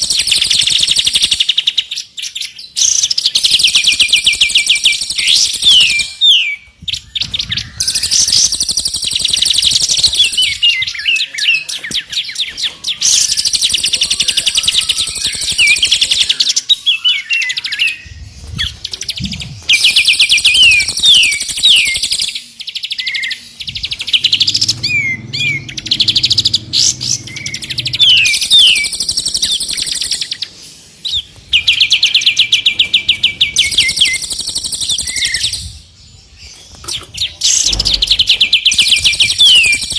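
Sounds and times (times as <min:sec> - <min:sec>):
songbirds singing trills: 0:00.0 - 0:39.9.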